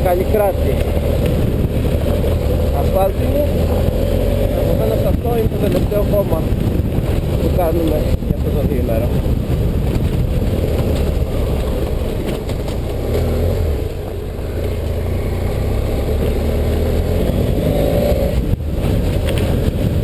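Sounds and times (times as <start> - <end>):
motorcycle engine on gravel track: 0.0 - 20.0.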